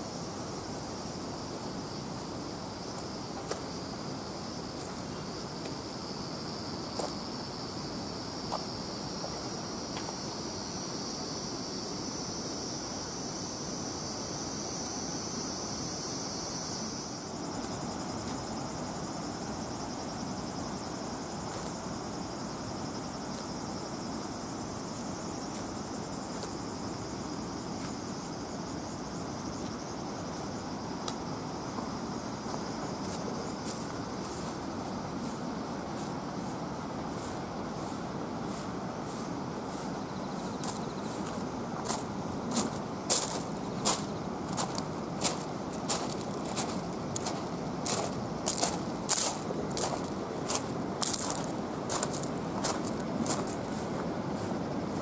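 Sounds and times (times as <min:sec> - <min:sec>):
insects singing: 0:00.0 - 0:55.0
low background hiss: 0:00.0 - 0:55.0.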